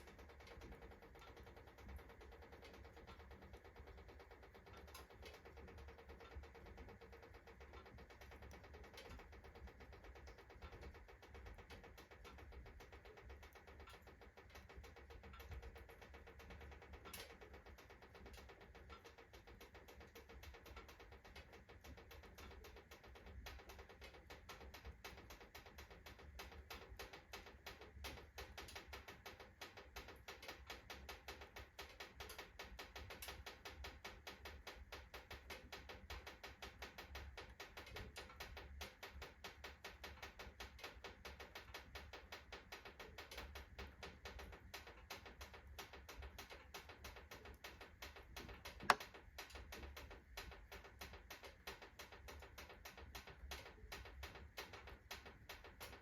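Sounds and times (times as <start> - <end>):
iron stove ticking: 0.0 - 56.0
wood fire crackling in stove: 0.0 - 56.0.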